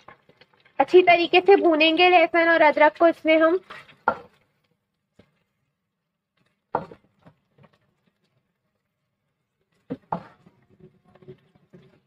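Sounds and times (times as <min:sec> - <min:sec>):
spatula stirring chicken in oil: 0:00.0 - 0:12.0.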